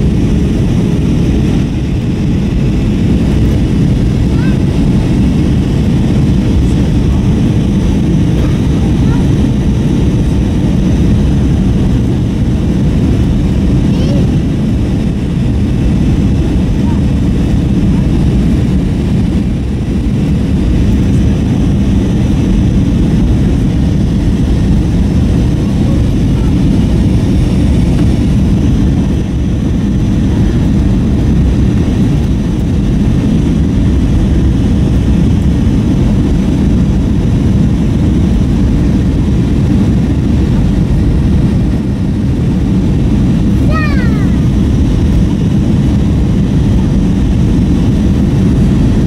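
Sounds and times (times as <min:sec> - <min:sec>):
jet engine and airflow roar: 0:00.0 - 0:49.0.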